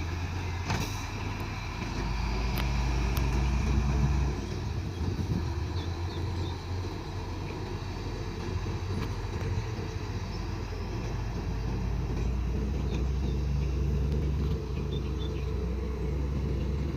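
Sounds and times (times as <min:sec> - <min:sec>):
dump truck engine rumbling: 0:00.0 - 0:16.9.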